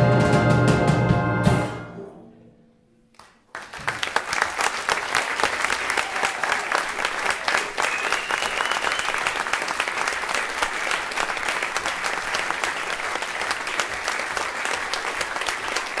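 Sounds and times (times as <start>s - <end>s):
audience applauding: 3.1s - 16.0s.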